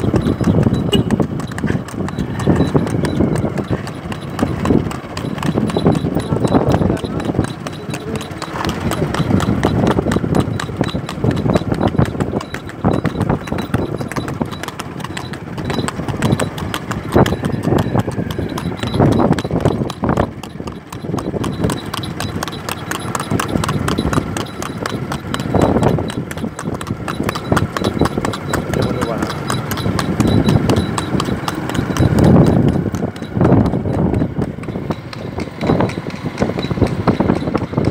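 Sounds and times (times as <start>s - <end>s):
horse hooves clip-clopping on road: 0.0s - 37.9s.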